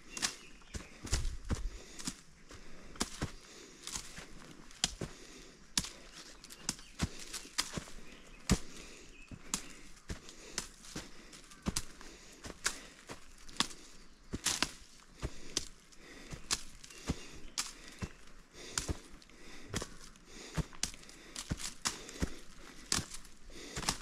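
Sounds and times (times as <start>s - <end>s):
footsteps through undergrowth: 0.0s - 24.0s.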